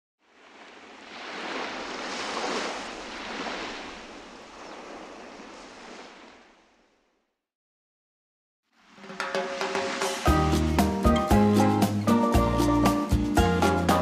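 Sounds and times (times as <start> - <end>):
ocean waves washing: 0.2 - 7.1, 8.7 - 13.4.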